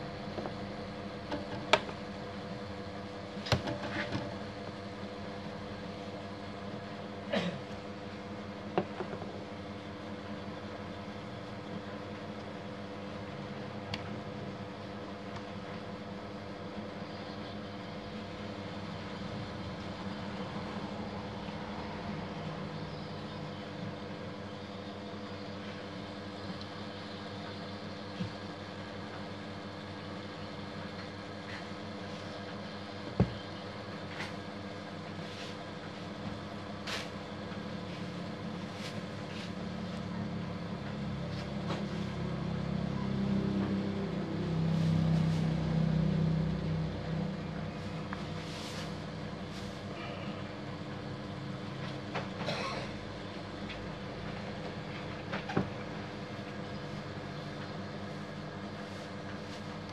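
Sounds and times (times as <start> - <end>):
background hum: 0.0 - 59.9.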